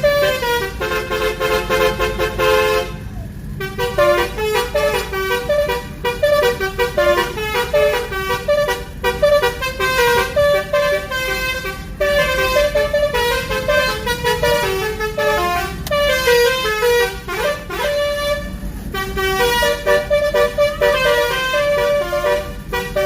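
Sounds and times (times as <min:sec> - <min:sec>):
multi-tone bus horn melody: 0:00.0 - 0:23.0.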